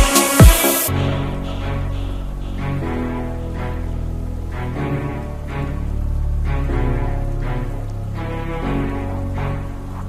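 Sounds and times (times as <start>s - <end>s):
background music with soft beat: 0.0s - 10.0s.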